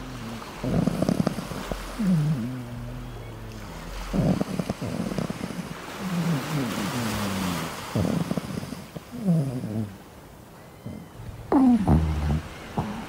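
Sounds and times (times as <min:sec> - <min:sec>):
surf washing: 0:00.0 - 0:13.0.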